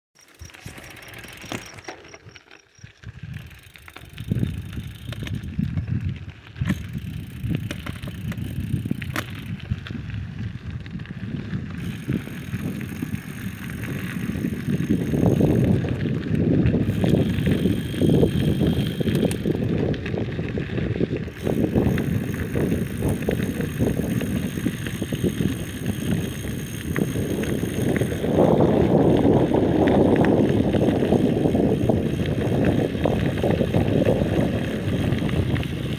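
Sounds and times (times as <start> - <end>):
bicycle road noise: 0.2 - 35.9.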